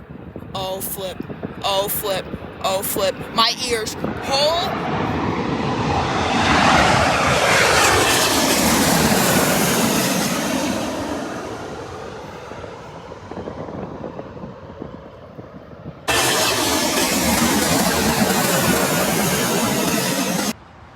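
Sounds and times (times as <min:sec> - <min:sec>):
jet airliner passing overhead: 0:00.6 - 0:20.9.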